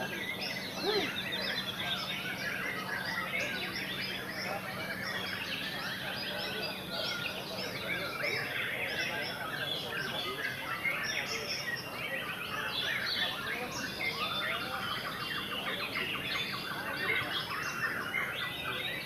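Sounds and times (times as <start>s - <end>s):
birds singing whistles and trills: 0.0s - 19.0s.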